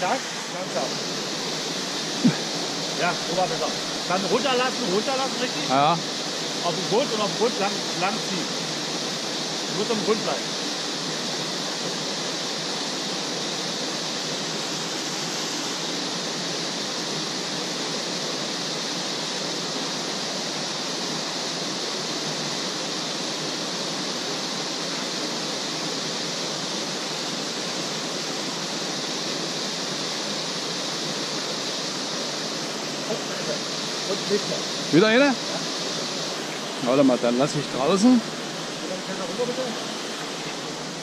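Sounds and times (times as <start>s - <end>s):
small waterfall into pool: 0.0s - 41.0s.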